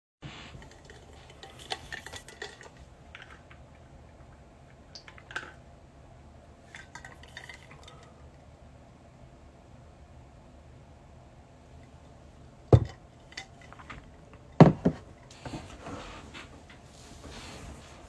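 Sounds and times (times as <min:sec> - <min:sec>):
faint steady hum: 0:00.2 - 0:18.0.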